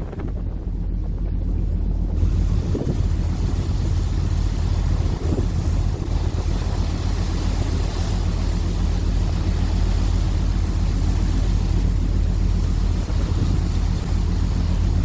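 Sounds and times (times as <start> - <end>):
wind noise on microphone: 0.0 - 10.4, 11.0 - 15.0
ferry engines rumbling: 0.0 - 15.0.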